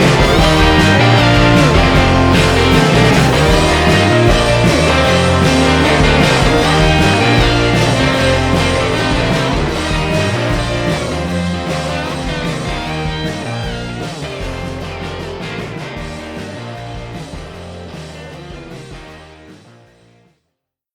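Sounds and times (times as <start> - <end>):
rock music with guitar: 0.0 - 20.0.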